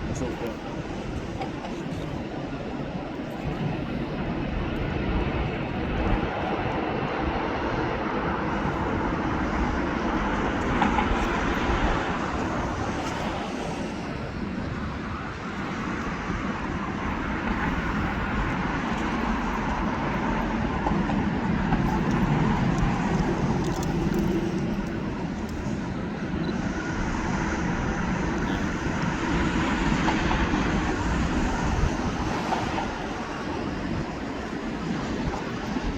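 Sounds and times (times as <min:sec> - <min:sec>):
jet aircraft engine noise: 0:00.0 - 0:35.9.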